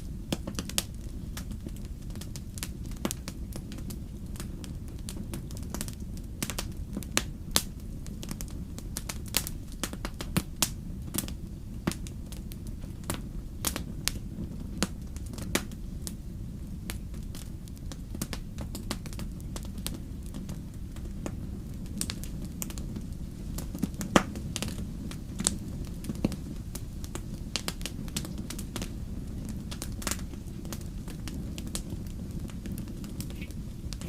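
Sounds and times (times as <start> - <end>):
campfire crackling and popping: 0.0 - 34.0
low rumble of fire: 0.0 - 34.0.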